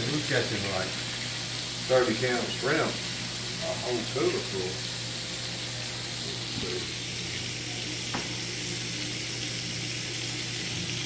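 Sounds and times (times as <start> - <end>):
shrimp sizzling in hot oil: 0.0 - 11.0.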